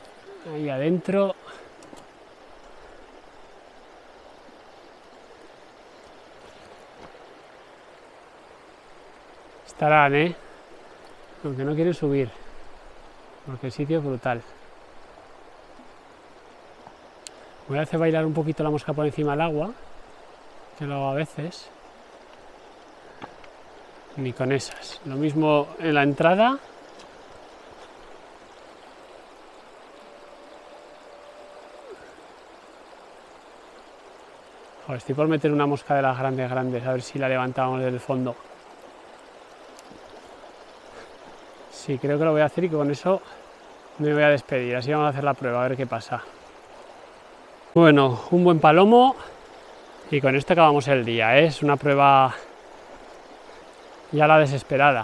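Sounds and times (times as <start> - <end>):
river flowing over stones: 0.0 - 55.0.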